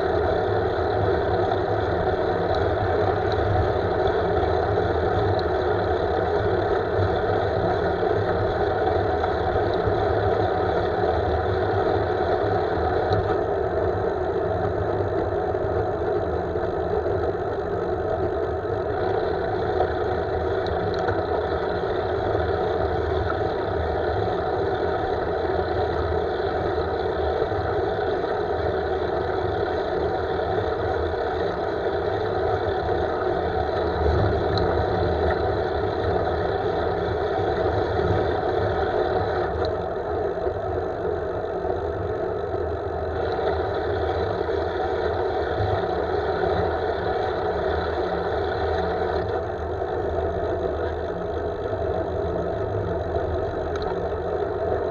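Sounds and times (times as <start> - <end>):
bike tyre rumble on asphalt: 0.0 - 54.9.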